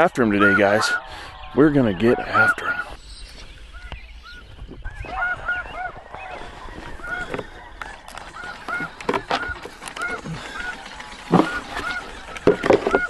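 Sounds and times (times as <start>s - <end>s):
snow goose calls from electronic callers: 0.0s - 3.0s, 3.7s - 13.0s.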